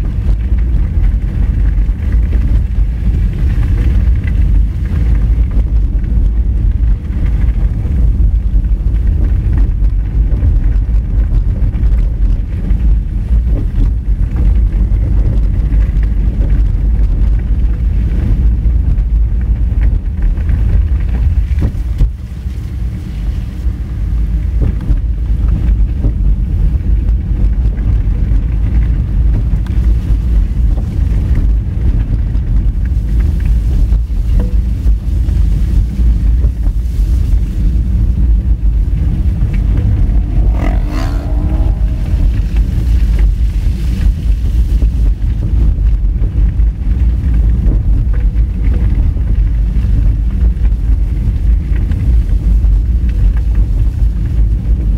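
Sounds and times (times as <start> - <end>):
car running: 0.0 - 54.9
tyres rumbling on gravel: 0.0 - 54.9.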